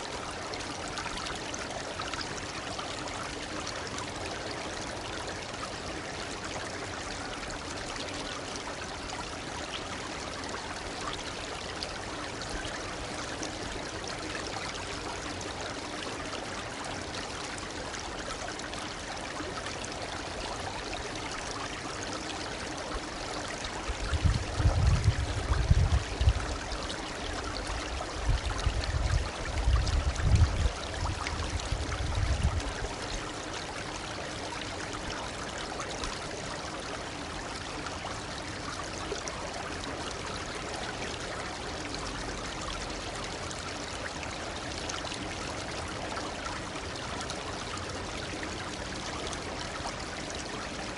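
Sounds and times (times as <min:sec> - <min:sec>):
stream babbling: 0:00.0 - 0:50.9.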